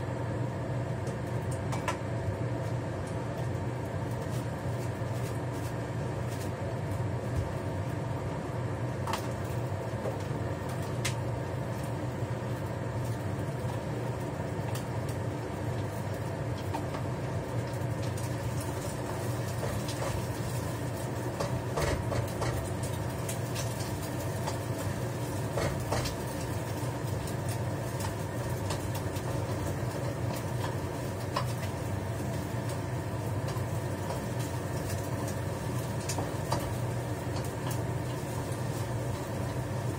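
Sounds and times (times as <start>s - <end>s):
range hood fan humming: 0.0s - 39.9s.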